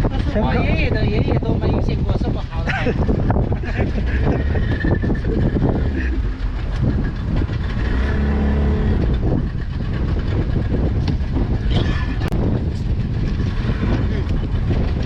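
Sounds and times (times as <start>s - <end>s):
boat engine and net hauling gear: 0.0s - 15.0s.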